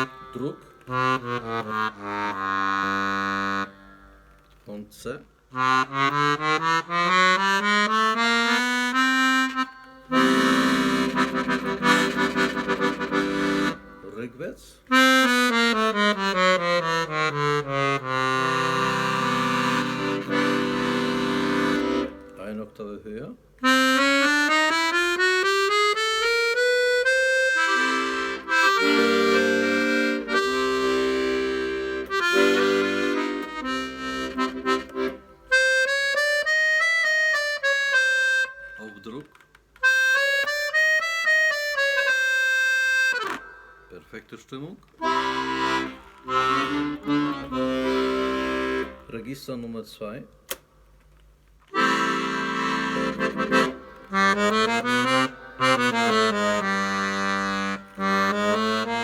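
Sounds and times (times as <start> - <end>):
accordion playing: 0.0 - 4.7, 5.5 - 22.7, 23.5 - 44.1, 44.9 - 49.4, 51.6 - 59.0.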